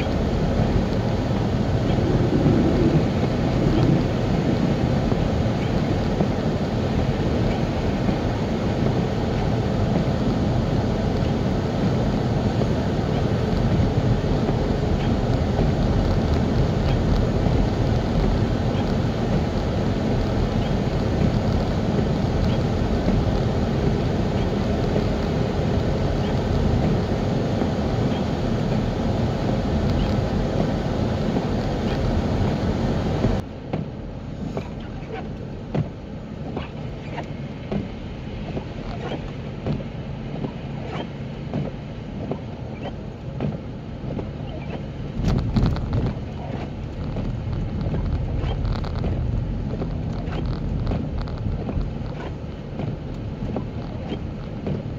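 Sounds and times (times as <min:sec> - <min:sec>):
car driving on snowy road: 0:00.0 - 0:54.9.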